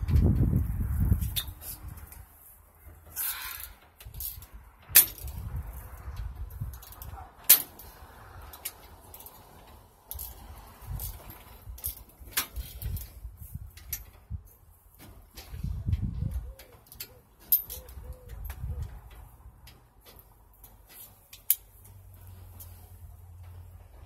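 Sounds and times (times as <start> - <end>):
hand tools clicking and clinking: 2.9 - 15.6, 16.3 - 23.7.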